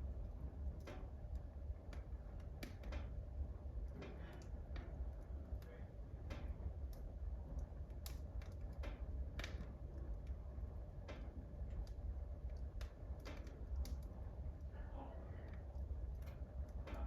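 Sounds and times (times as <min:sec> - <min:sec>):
low fire rumble: 0:00.0 - 0:17.0
wood fire crackling and popping: 0:00.0 - 0:17.0.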